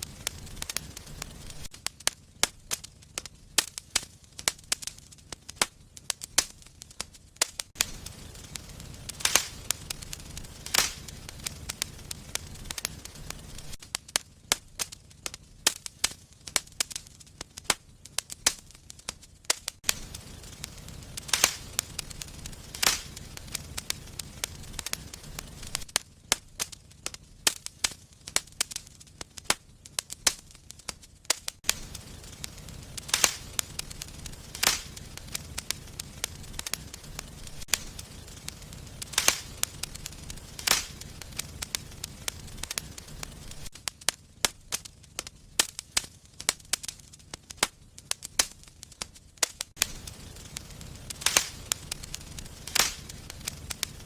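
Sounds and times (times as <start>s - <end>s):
low rush of flame: 0.0s - 7.1s, 7.7s - 19.2s, 19.8s - 29.5s, 31.6s - 44.0s, 49.7s - 54.0s
wood fire crackling and popping: 0.0s - 54.0s.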